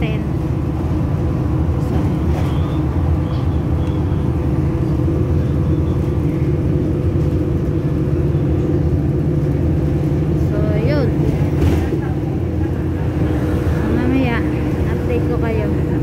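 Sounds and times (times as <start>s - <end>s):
bus engine and tyre rumble: 0.0s - 16.0s.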